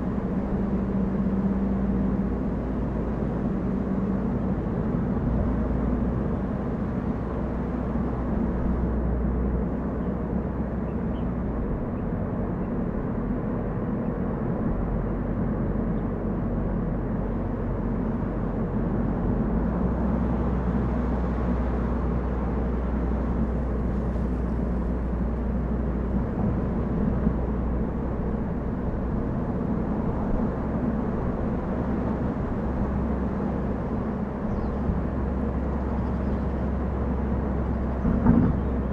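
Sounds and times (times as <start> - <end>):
car driving: 0.0 - 38.9.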